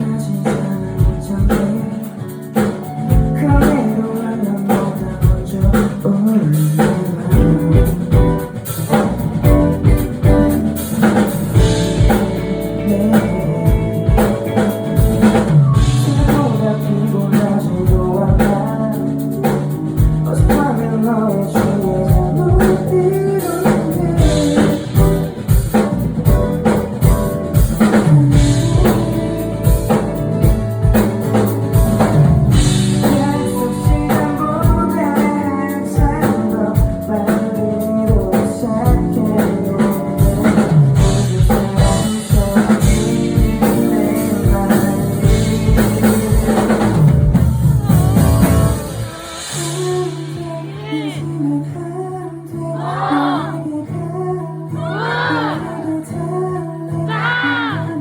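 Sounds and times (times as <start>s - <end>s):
drum kit beat: 0.0s - 51.7s, 52.7s - 53.6s, 54.8s - 55.8s, 57.0s - 58.0s
live rock band playing: 0.0s - 52.0s, 52.7s - 53.6s, 54.8s - 55.9s, 57.0s - 58.0s.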